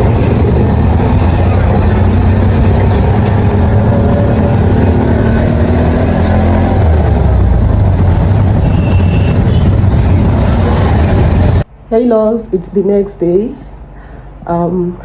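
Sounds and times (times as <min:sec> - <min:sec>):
motor vehicle engine and road noise: 0:00.0 - 0:12.6.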